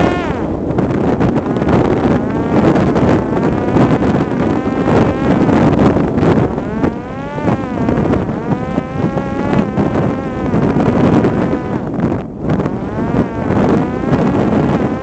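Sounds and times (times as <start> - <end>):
electric propeller motor whining: 0.0 - 15.0
wind buffeting microphone: 0.0 - 15.0.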